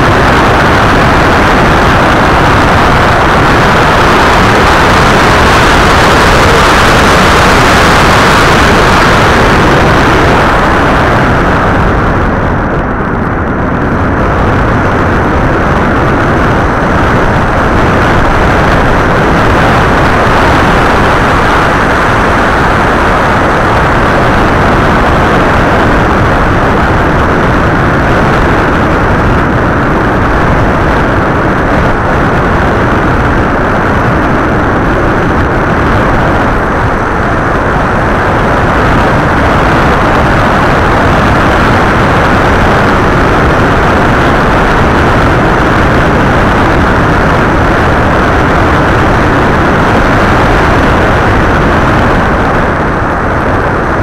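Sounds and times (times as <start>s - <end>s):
airflow and propeller noise: 0.0s - 54.0s.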